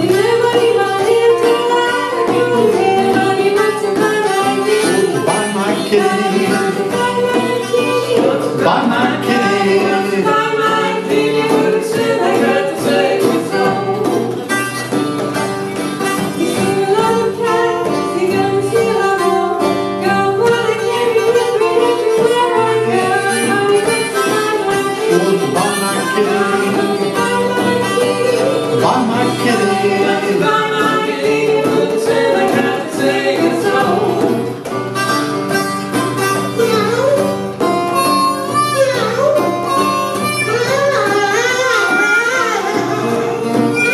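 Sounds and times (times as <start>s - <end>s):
acoustic guitar: 0.0s - 43.9s
djembe: 0.0s - 43.9s
harmonica: 0.0s - 43.9s.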